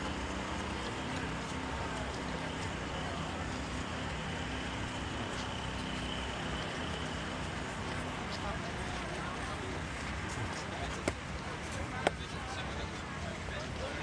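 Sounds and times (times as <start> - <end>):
city traffic hum: 0.0 - 14.0.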